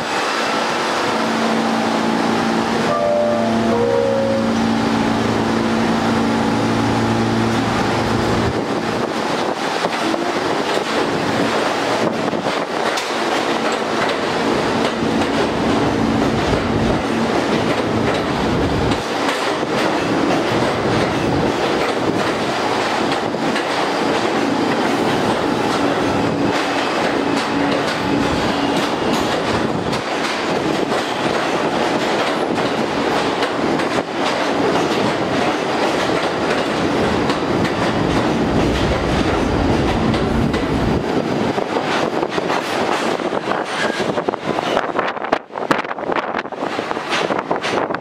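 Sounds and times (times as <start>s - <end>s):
subway train rumbling past: 0.0s - 48.0s
clickety-clack over rail joints: 7.5s - 48.0s.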